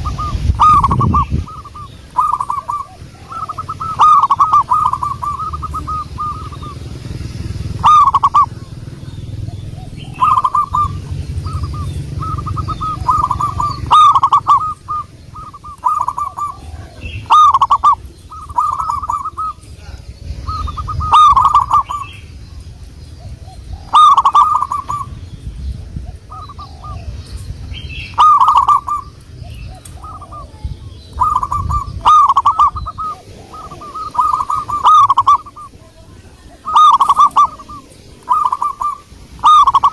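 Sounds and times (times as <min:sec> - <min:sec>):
dove cooing: 0:00.0 - 0:39.9
low background rumble: 0:00.0 - 0:39.9.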